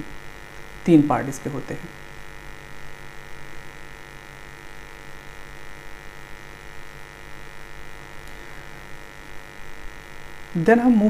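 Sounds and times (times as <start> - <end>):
electrical mains hum: 0.0 - 11.0
faint high whine: 0.0 - 11.0.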